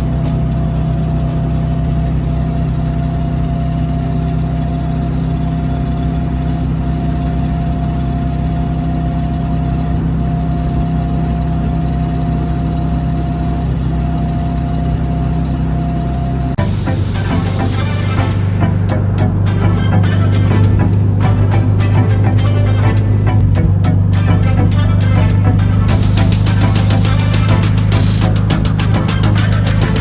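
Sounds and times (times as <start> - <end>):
small car engine droning: 0.0 - 30.0
thin steady whine: 5.6 - 30.0.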